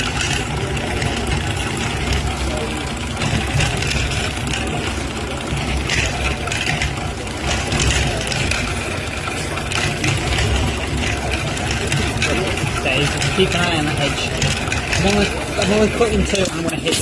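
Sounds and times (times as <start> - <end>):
sewing machine hum and clatter: 0.0 - 17.0.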